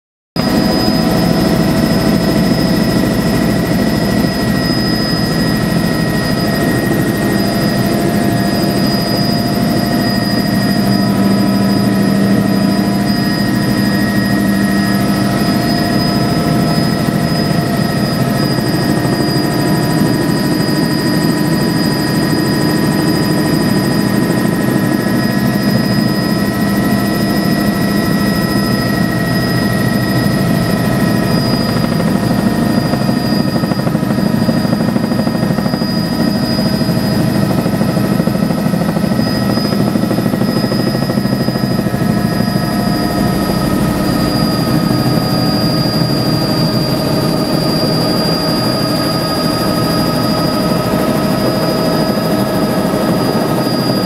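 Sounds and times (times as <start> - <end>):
helicopter rotor and engine: 0.4 - 54.0.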